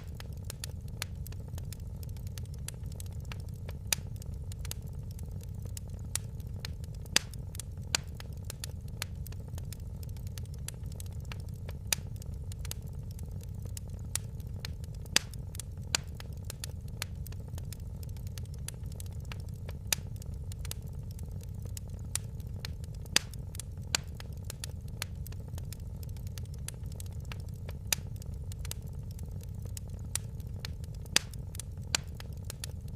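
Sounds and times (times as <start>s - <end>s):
fire crackling and popping: 0.0s - 32.9s
low fire rumble: 0.0s - 32.9s.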